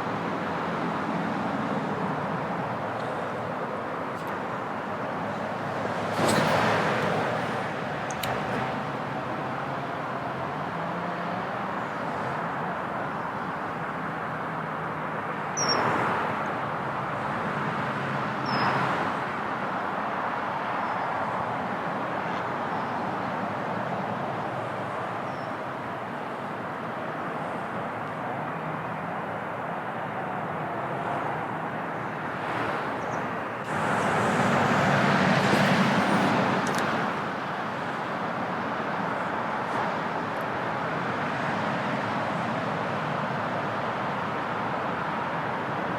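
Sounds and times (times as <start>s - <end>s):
outdoor traffic noise: 0.0s - 45.9s.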